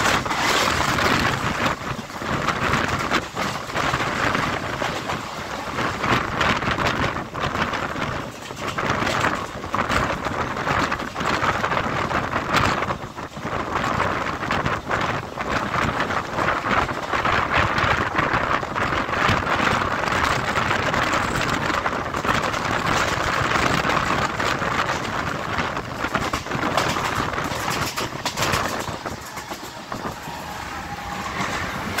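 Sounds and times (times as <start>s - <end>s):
wheels on rails rattling: 0.0s - 32.0s
wind rushing: 0.0s - 32.0s.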